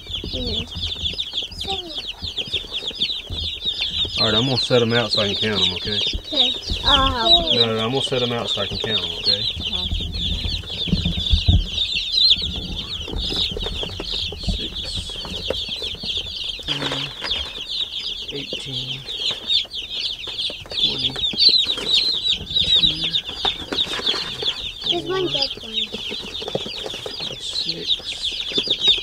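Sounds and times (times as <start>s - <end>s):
baby chicks peeping: 0.0s - 29.0s.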